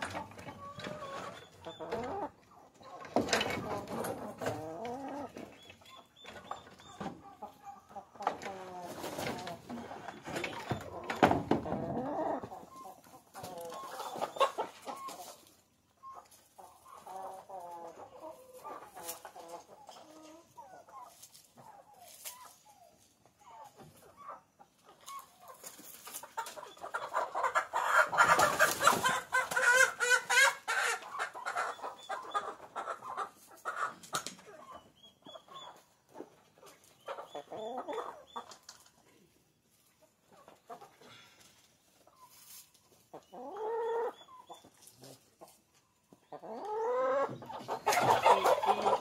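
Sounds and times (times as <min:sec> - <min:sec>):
hens clucking: 0:00.0 - 0:49.0.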